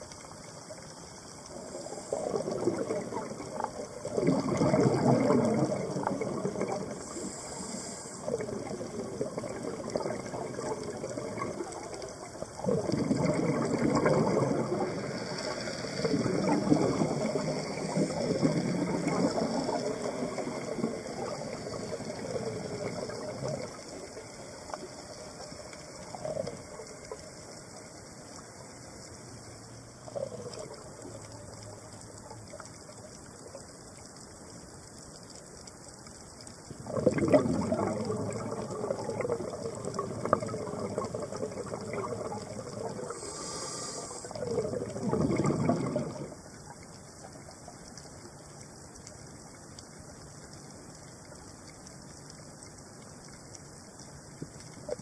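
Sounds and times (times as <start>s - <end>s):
underwater regulator bubbles: 0.0s - 28.6s, 29.8s - 33.5s, 36.6s - 49.2s, 54.2s - 55.0s.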